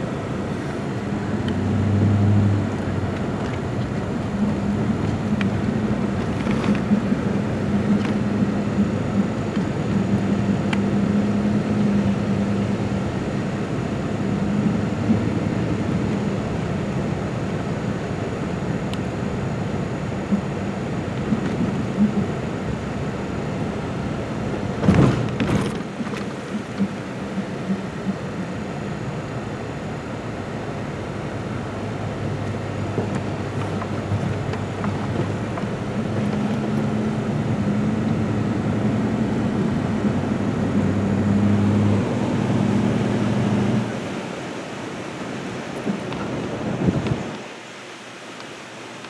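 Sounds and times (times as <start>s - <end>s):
tyre and road rumble: 0.0s - 29.7s, 30.6s - 47.5s
vehicle engine hum: 0.0s - 49.0s.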